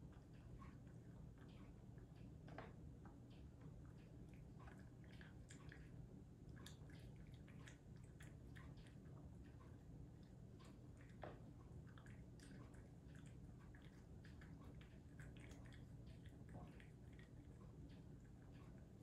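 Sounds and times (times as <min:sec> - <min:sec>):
cat chewing wet food: 0:00.0 - 0:19.0.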